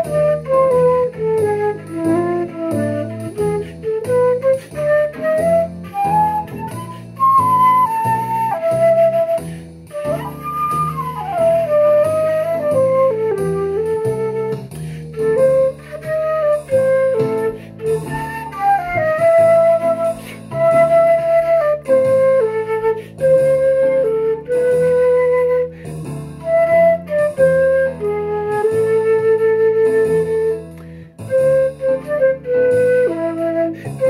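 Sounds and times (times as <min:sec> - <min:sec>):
flute playing slow melody: 0:00.0 - 0:34.0.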